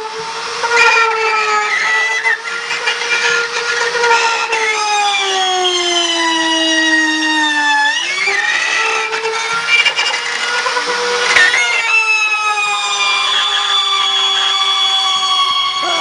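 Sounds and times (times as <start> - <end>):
power tool cutting wood: 0.0 - 16.0.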